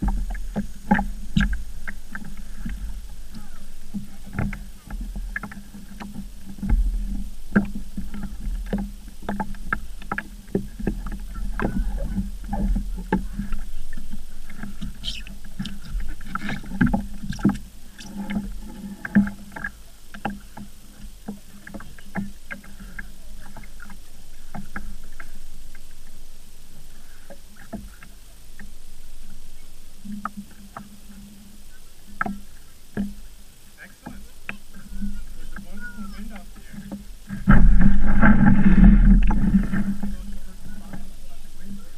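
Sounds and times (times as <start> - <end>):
knocks and clatter of boat gear: 0.0 - 26.2, 30.0 - 41.9
water lapping against boat hull: 0.0 - 41.9.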